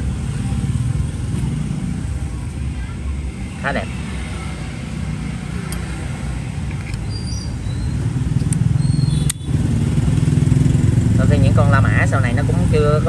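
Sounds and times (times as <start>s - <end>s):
road vehicle engine rumble: 0.0s - 13.0s.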